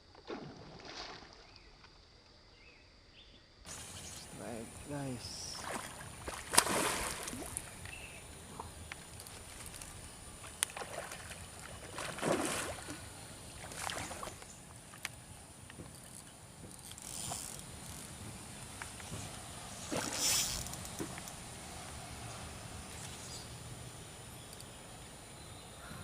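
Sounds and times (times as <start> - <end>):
water splashing and sloshing: 0.1 - 2.0, 3.7 - 23.3.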